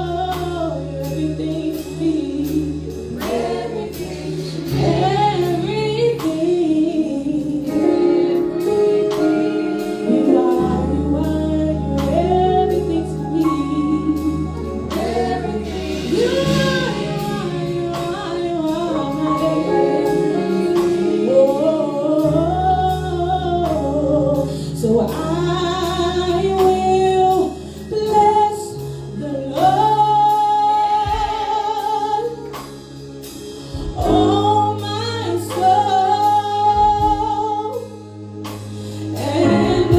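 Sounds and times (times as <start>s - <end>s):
band accompaniment: 0.0s - 39.9s
gospel singing: 0.0s - 39.9s.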